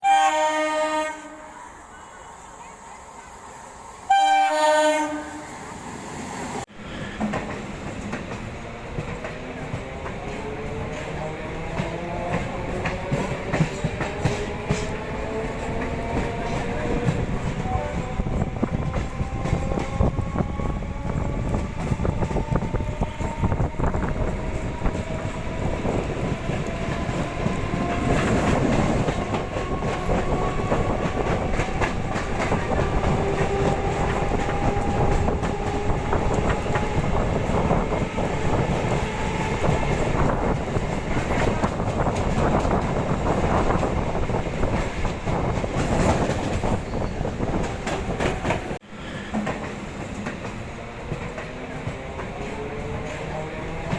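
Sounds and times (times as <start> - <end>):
train rumbling on track: 0.0 - 53.9.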